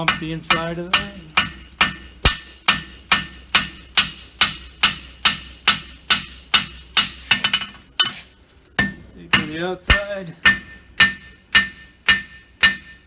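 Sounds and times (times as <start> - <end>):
hammer striking horseshoe on anvil: 0.0 - 13.0.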